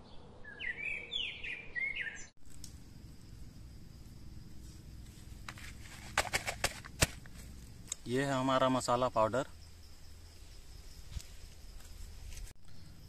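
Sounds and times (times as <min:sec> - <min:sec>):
faint outdoor background noise: 0:00.0 - 0:13.0
songbird chirping: 0:00.0 - 0:13.0.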